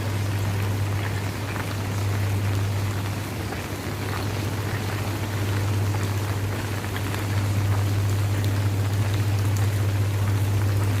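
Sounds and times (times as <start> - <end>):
constant low hum: 0.0 - 11.0
raindrops ticking: 0.0 - 11.0
steady rain falling: 0.0 - 11.0.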